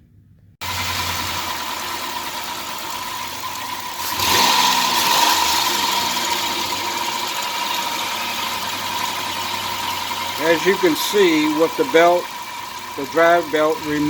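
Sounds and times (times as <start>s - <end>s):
car engine running: 0.6s - 14.0s.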